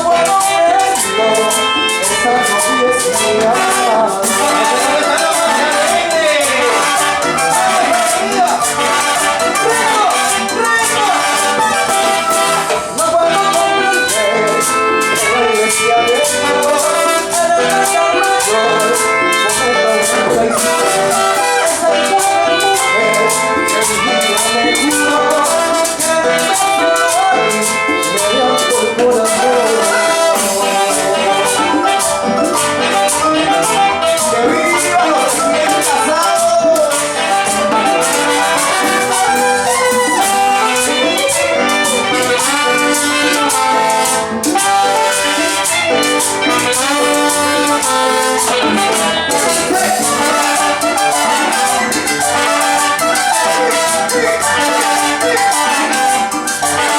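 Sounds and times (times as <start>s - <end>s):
latin dance band playing: 0.0s - 56.9s.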